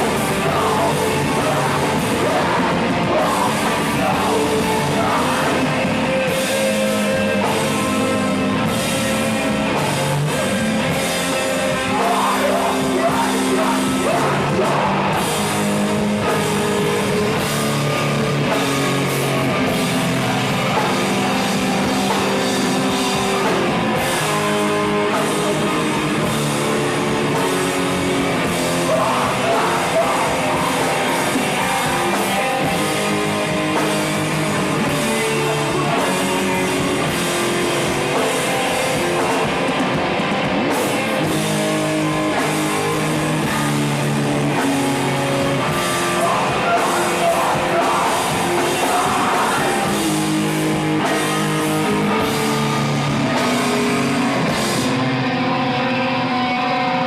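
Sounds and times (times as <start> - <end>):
shouted singing: 0.0 - 55.0
distorted electric guitars: 0.0 - 57.0
drums: 0.0 - 57.0.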